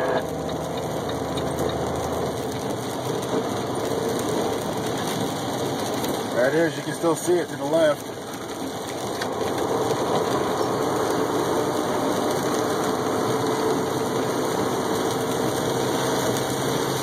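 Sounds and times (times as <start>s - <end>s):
road noise: 0.0s - 17.0s
truck engine running: 0.0s - 17.0s.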